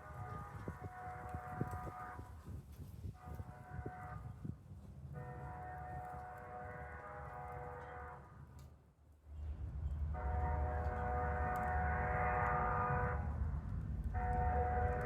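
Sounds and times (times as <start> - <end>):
train horn blasts: 0.0 - 8.7, 10.1 - 15.0
train rumbling: 0.0 - 15.0.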